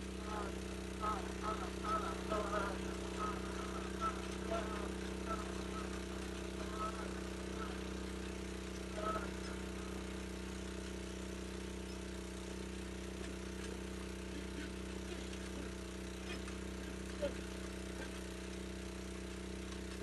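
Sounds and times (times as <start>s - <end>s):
small engine droning: 0.0s - 20.0s.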